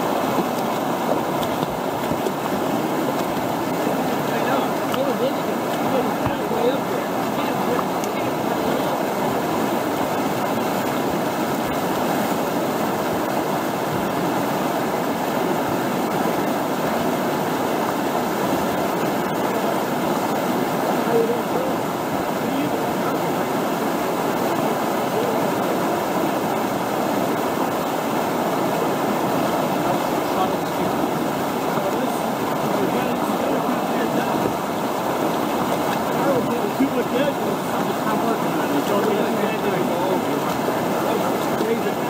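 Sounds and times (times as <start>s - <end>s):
whitewater rushing: 0.0s - 42.0s.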